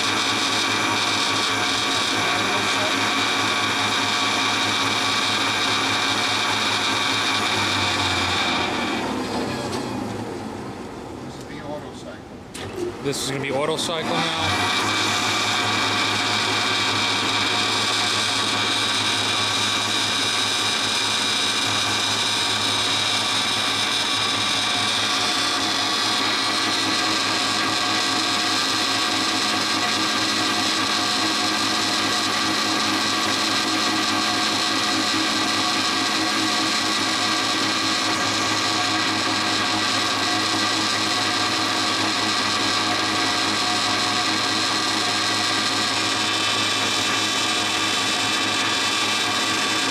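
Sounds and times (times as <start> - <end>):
band saw hum and whine: 0.0 - 49.9.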